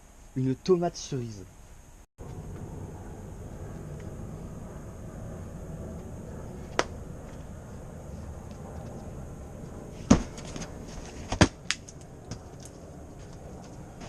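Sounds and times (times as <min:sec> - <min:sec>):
low steady background rumble: 0:00.0 - 0:14.0.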